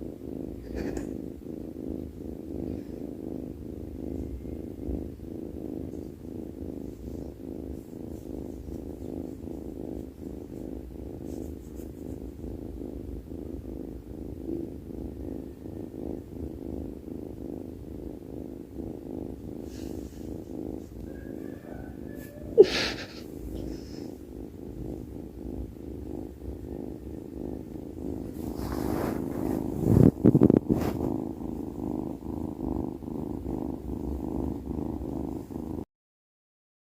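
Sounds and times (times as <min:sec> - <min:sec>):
cat snoring: 0:00.0 - 0:35.9.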